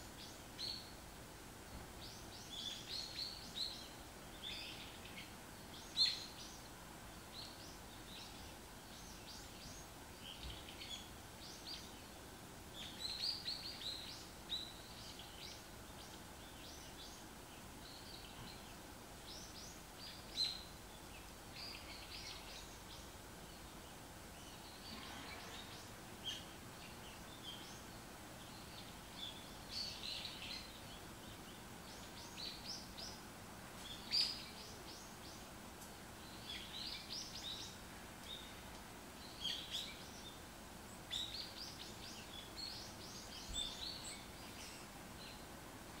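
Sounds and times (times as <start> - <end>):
faint background hiss: 0.0 - 46.0
songbirds chirping: 0.0 - 46.0.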